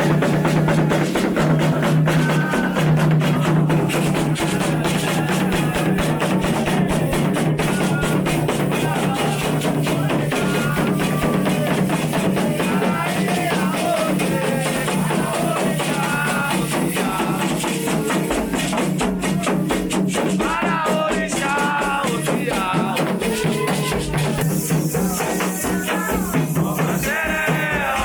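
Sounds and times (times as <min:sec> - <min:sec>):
hand drums beating fast: 0:00.0 - 0:28.0
voices singing: 0:00.0 - 0:28.0.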